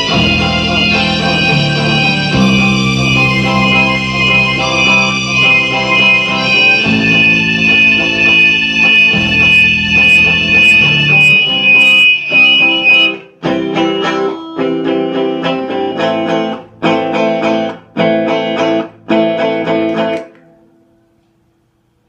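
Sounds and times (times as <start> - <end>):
guitar strumming chords: 0.0 - 21.2.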